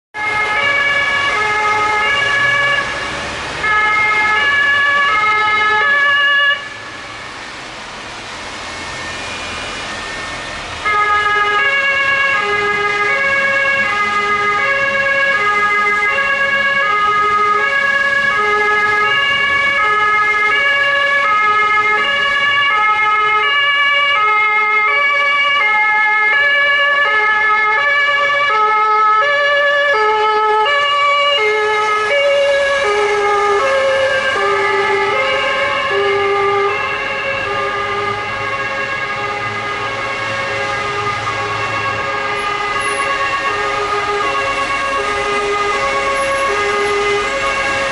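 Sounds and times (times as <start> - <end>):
traffic on a wet road: 0.2 - 47.9
two-tone police sirens: 0.2 - 47.9.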